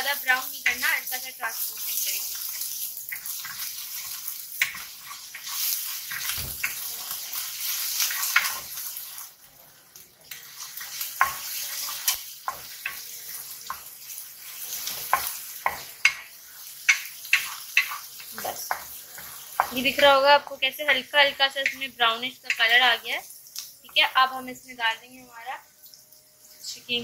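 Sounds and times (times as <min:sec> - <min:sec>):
garlic sizzling in hot oil: 0:00.0 - 0:27.0.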